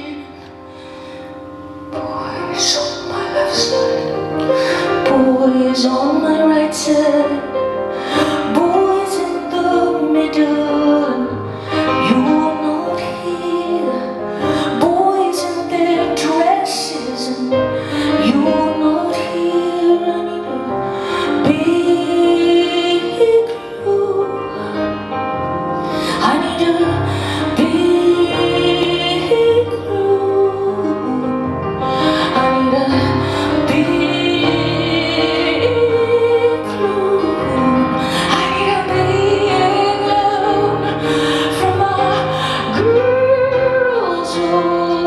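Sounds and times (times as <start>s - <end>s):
woman singing with vibrato: 0.0s - 1.0s, 1.6s - 25.1s, 25.8s - 45.0s
grand piano: 0.0s - 45.0s.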